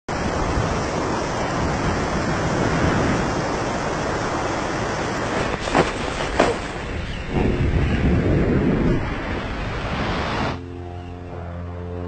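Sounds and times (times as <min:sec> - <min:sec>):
airflow buffeting microphone: 0:00.1 - 0:11.7.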